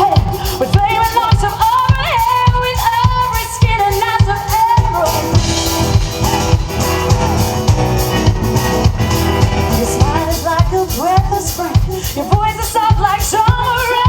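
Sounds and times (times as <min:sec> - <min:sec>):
guitar: 0:00.0 - 0:14.0
steady drum beat: 0:00.0 - 0:14.0.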